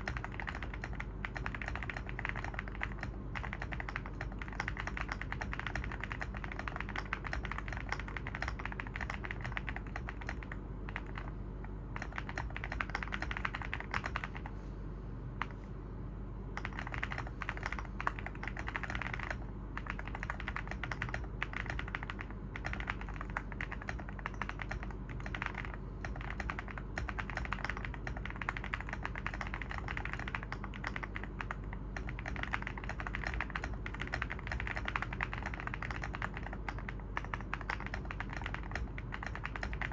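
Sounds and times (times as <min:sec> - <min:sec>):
mechanical keyboard typing: 0:00.0 - 0:14.5, 0:16.5 - 0:39.9.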